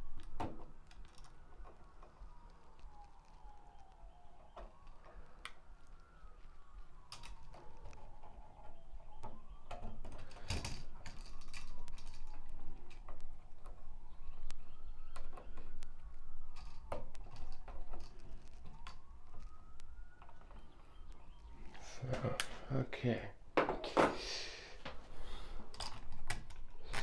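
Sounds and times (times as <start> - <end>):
siren wailing: 0.0 - 24.2, 24.8 - 27.0.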